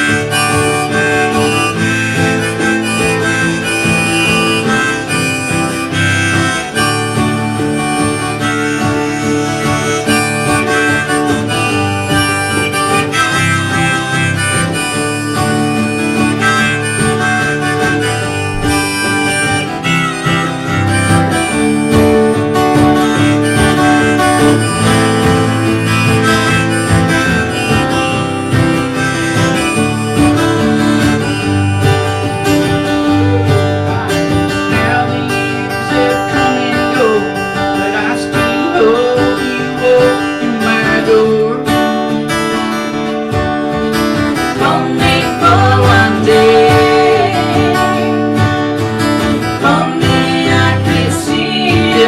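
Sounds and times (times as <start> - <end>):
live band playing instrumental: 0.0 - 52.0.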